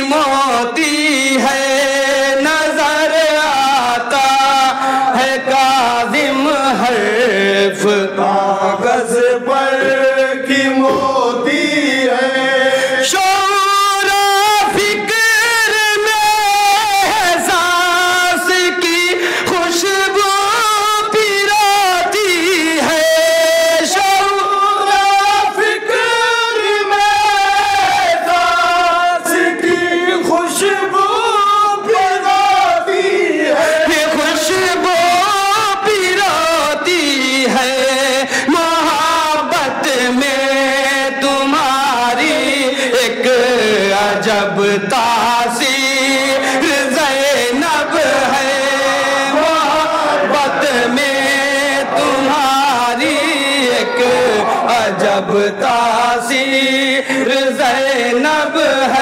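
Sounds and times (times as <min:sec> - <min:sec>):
man singing lead: 0:00.0 - 0:59.0
men singing in chorus: 0:00.0 - 0:59.0.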